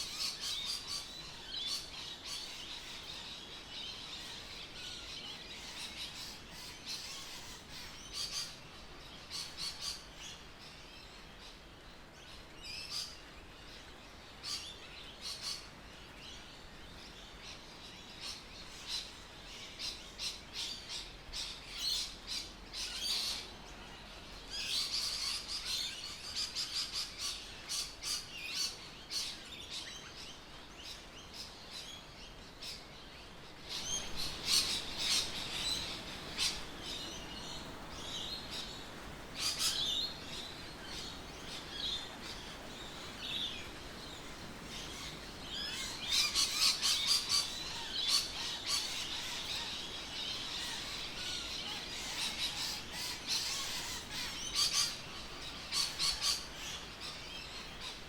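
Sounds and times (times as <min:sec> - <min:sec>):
birds chirping and squawking: 0:00.0 - 0:10.1, 0:18.2 - 0:32.0, 0:32.7 - 0:58.0
steady background hiss: 0:00.0 - 0:58.0.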